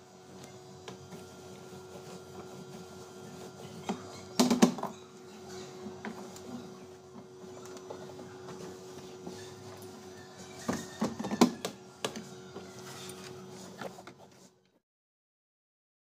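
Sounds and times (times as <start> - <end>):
handling and wiping on plastic: 0.4 - 4.7, 5.4 - 14.7.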